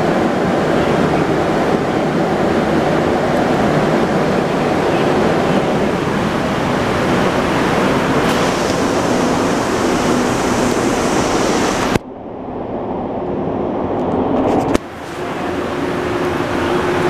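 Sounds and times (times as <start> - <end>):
metro train rush and rumble: 0.0 - 17.0.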